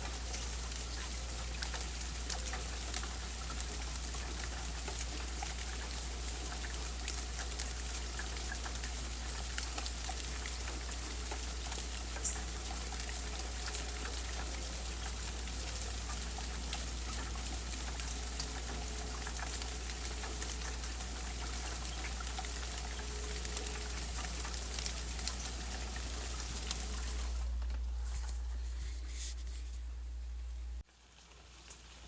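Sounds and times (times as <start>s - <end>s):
steady rain: 0.0s - 28.9s, 30.7s - 32.0s
raindrops tapping: 0.0s - 29.6s.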